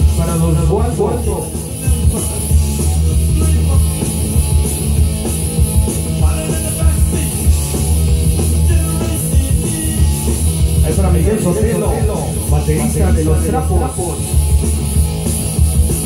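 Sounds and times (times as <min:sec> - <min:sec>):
loud dj music with pulsing bass: 0:00.0 - 0:16.0.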